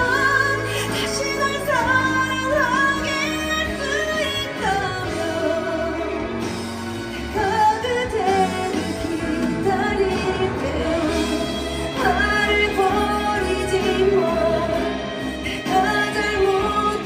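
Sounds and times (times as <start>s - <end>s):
song with sung vocal: 0.0s - 17.0s.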